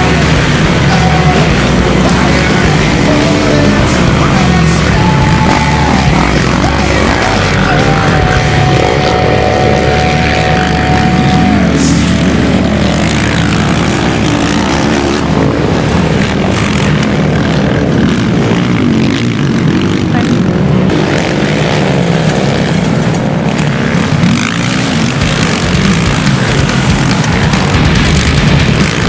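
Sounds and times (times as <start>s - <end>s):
racing quad bike engines: 0.0s - 29.0s.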